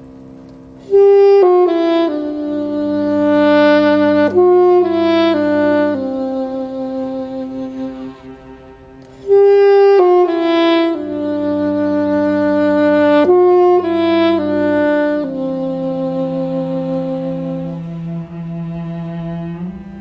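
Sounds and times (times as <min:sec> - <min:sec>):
bowed cello notes: 0:00.0 - 0:20.0
saxophone long held notes: 0:00.0 - 0:20.0.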